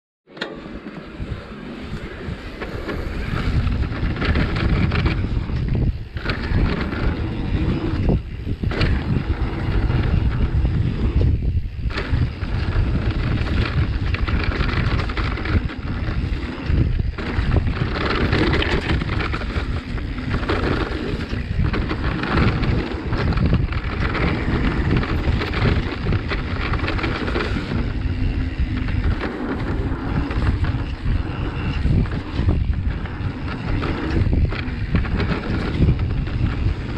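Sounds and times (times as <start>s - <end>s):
bike tyres rolling over dirt: 0.6s - 36.9s
wind buffeting microphone: 1.0s - 36.9s
bike rattling and knocking: 1.3s - 36.9s.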